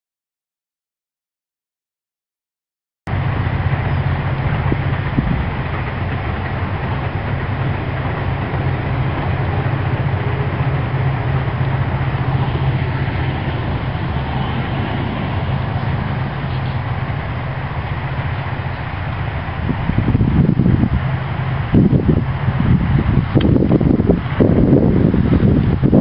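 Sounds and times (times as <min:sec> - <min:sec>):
container wagons rumbling by: 0:03.1 - 0:26.0
diesel locomotive engines droning: 0:03.1 - 0:26.0.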